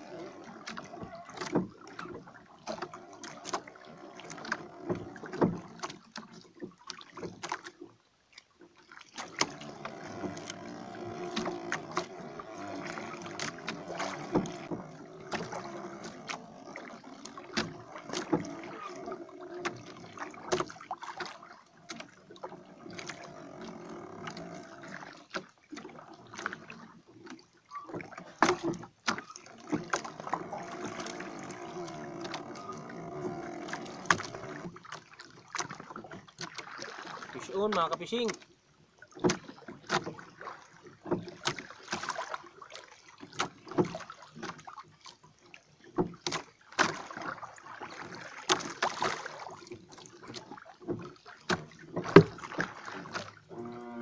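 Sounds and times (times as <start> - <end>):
knocks and clicks from hull: 0.0 - 7.8, 9.1 - 38.5, 39.1 - 42.4, 43.1 - 44.8, 45.8 - 47.3, 47.9 - 54.0
water lapping against boat: 0.0 - 54.0.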